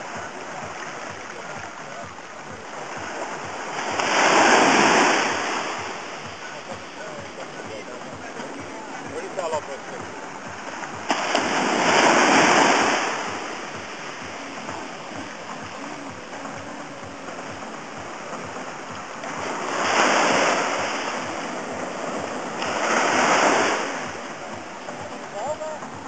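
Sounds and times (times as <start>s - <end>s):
small waves breaking on sand: 0.0s - 26.0s.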